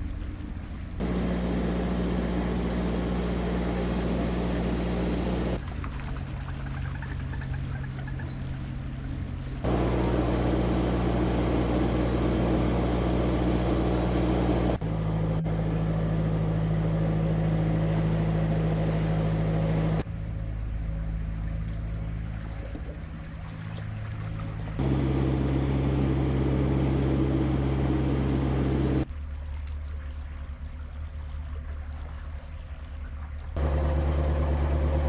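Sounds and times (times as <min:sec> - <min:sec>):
boat diesel engine running: 0:00.1 - 0:07.4, 0:09.4 - 0:29.1, 0:33.6 - 0:35.0.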